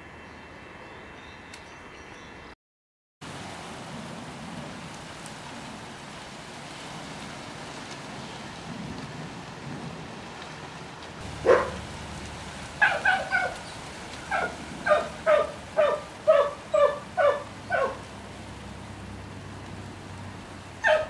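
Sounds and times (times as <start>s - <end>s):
faint steady hiss: 3.2s - 21.0s.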